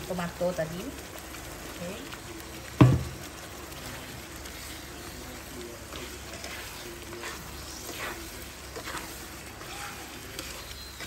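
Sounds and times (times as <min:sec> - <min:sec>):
paste sizzling in a wok: 0:00.0 - 0:11.0
spatula stirring: 0:00.2 - 0:11.0.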